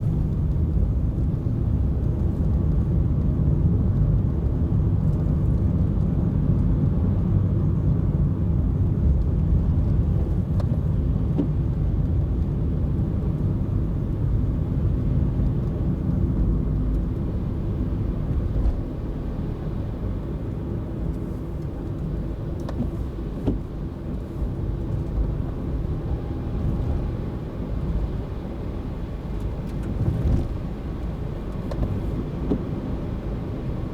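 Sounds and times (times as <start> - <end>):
car engine and tyre rumble: 0.0 - 33.9.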